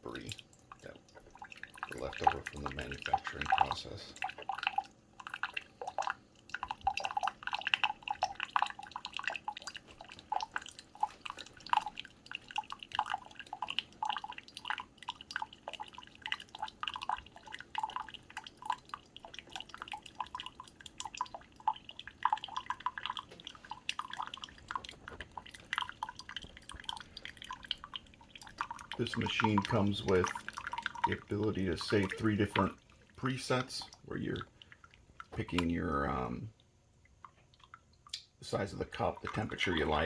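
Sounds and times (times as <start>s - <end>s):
water dripping into cup: 0.0s - 40.0s.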